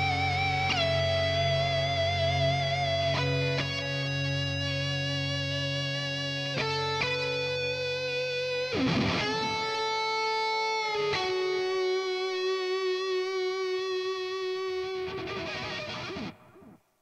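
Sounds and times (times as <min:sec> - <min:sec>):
electric guitar strummed chords: 0:00.0 - 0:16.7.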